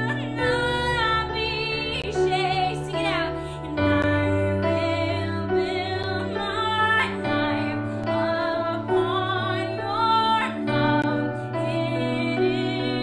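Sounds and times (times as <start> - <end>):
electronic keyboard chords: 0.0 - 13.0
woman singing: 0.0 - 13.0.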